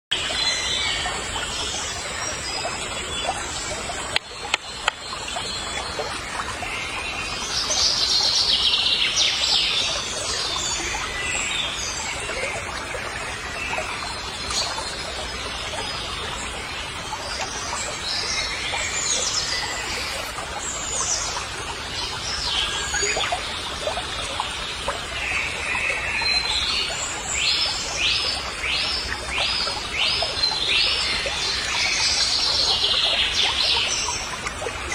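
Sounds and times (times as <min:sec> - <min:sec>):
outdoor background noise: 0:00.1 - 0:34.9.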